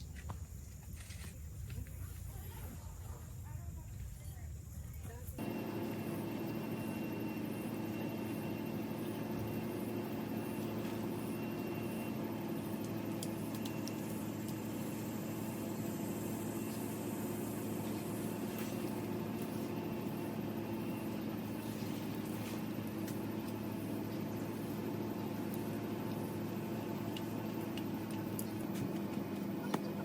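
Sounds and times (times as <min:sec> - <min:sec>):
steady low machine hum: 0:00.0 - 0:30.0.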